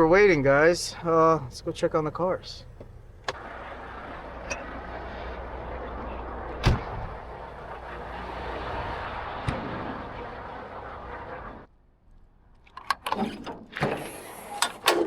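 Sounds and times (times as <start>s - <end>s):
steady rumbling: 0.0s - 12.4s.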